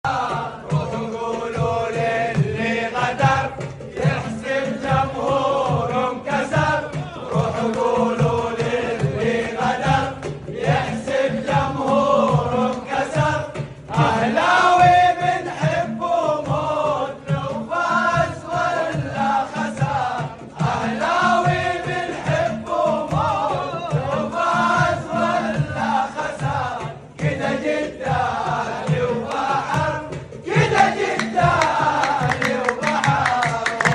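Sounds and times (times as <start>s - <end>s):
men chanting in unison: 0.0s - 33.9s
steady drum beat: 0.0s - 33.9s.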